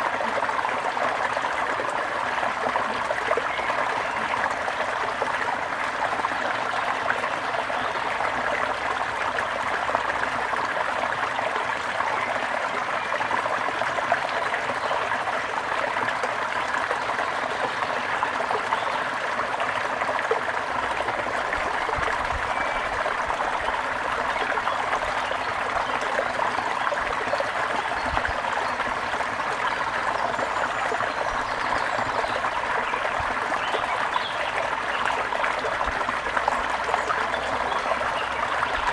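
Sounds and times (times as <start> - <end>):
water trickling over stones: 0.1 - 38.9.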